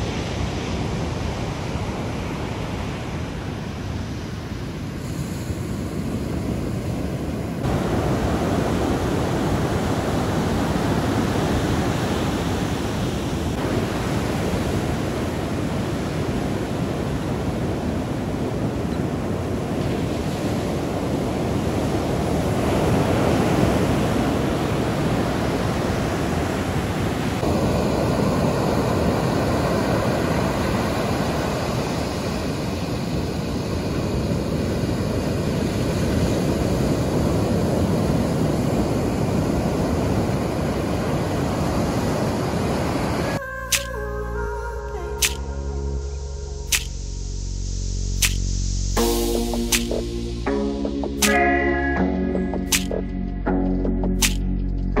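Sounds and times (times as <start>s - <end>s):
ocean waves breaking on beach: 0.0s - 44.1s.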